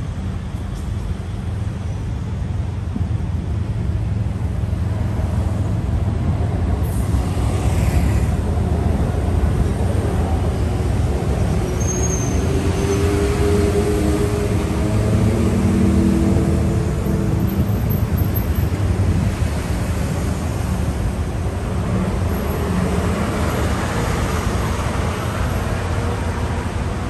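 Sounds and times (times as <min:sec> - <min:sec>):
passing motor vehicles rumbling: 0:00.1 - 0:27.0.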